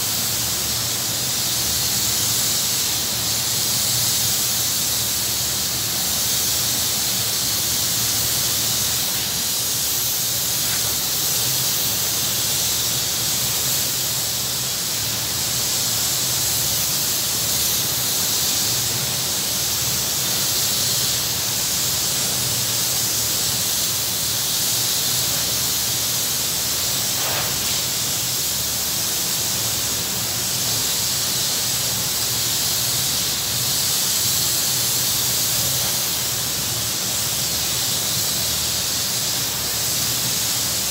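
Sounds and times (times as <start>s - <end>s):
spray gun hissing: 0.0s - 40.9s.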